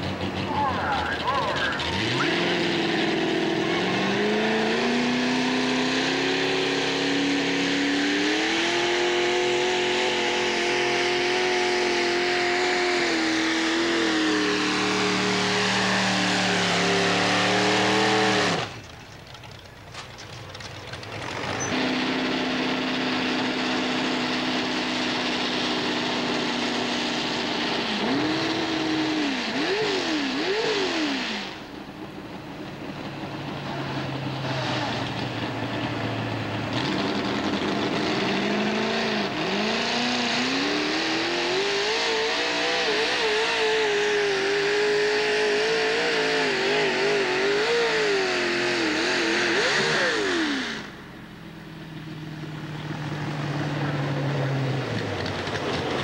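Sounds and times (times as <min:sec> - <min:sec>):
tractor engine under load: 0:00.0 - 0:29.7, 0:31.3 - 0:42.0, 0:42.6 - 0:56.0
engine idling and revving: 0:00.0 - 0:56.0.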